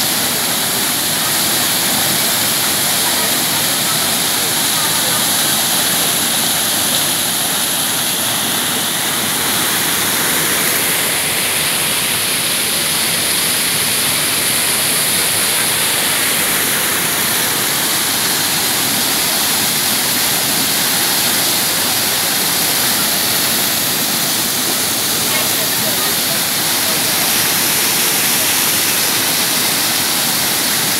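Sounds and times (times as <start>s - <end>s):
waterfall splashing into pool: 0.0s - 30.9s.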